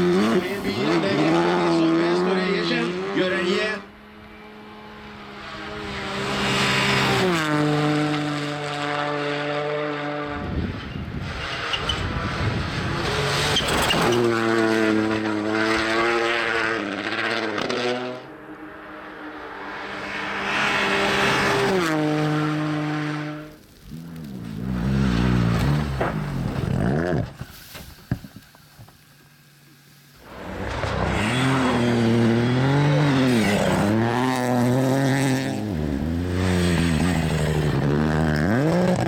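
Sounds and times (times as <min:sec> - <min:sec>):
rally car engines at full throttle: 0:00.0 - 0:27.5, 0:28.5 - 0:39.0.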